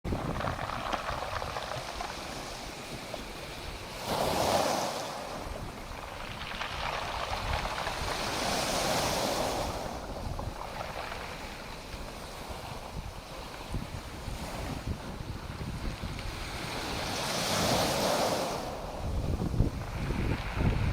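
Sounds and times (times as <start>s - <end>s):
wind rumble on microphone: 0.0s - 20.9s
ocean waves breaking: 0.1s - 20.9s.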